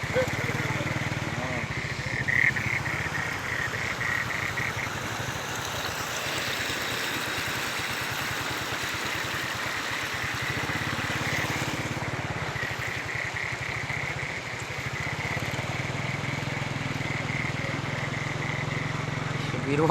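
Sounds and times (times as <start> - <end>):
engine running with low pulsing: 0.0 - 19.9.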